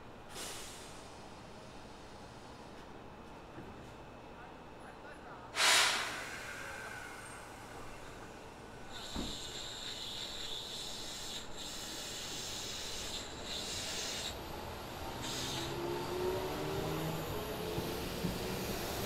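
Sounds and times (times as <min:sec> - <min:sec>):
train wheels hissing on rails: 0:00.3 - 0:03.0, 0:05.5 - 0:19.0.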